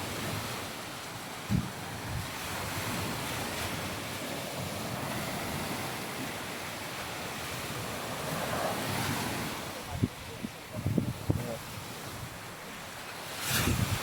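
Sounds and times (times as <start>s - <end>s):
waves breaking on sandy beach: 0.0s - 14.0s.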